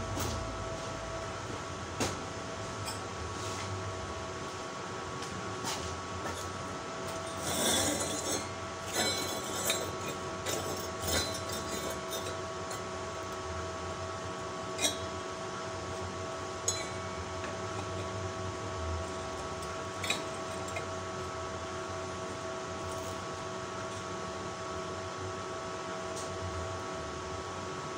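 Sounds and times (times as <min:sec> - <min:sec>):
steady background hum: 0:00.0 - 0:27.9.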